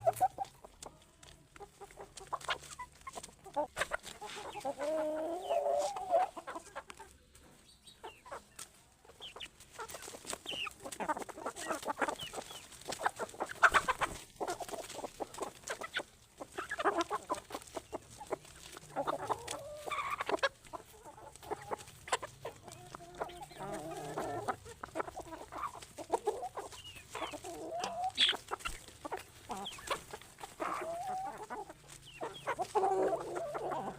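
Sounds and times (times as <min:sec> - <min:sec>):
chickens clucking: 0:00.0 - 0:33.9
wavering chicken calls: 0:00.0 - 0:33.9.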